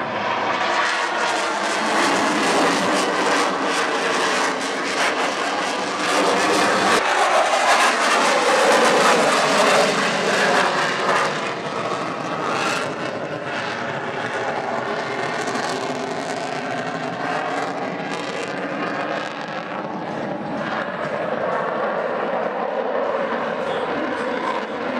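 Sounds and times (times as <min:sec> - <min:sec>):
airplane flying past: 0:00.0 - 0:24.9.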